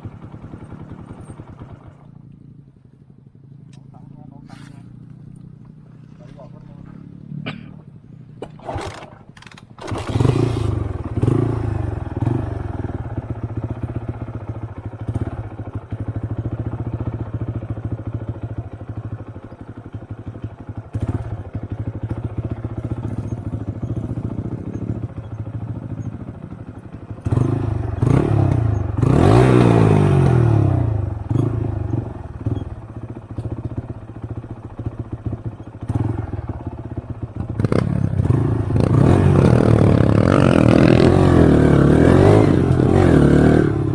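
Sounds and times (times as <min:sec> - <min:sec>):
motorcycle engine revving: 0:03.4 - 0:43.9.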